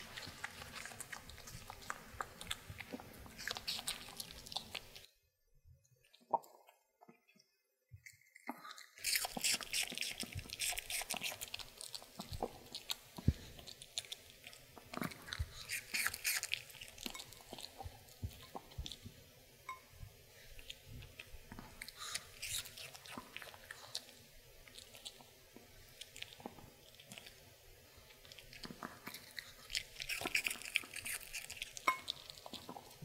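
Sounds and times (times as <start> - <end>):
puppy crunching raw apple: 0.0 - 5.1, 8.0 - 19.2, 20.5 - 33.0.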